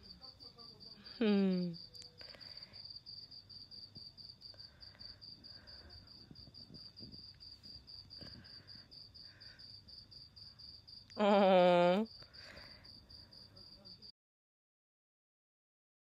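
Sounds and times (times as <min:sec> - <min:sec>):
cricket chirping: 0:00.0 - 0:14.1.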